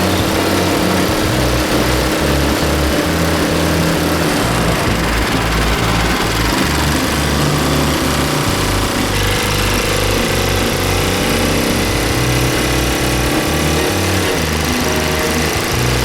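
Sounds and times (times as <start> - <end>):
motorized bicycle engine running: 0.0 - 16.0.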